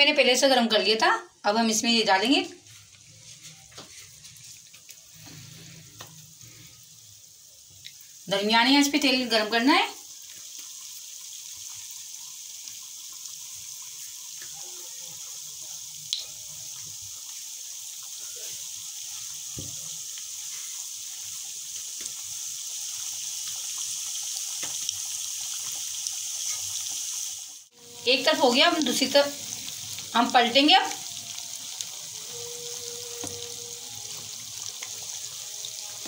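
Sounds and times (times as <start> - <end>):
dough sizzling in hot oil: 0.0 - 36.0.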